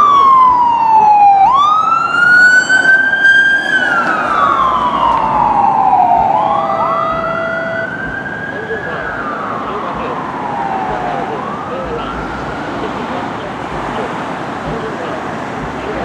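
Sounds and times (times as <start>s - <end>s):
fire siren wailing: 0.0s - 16.0s
second siren rising: 0.0s - 16.0s.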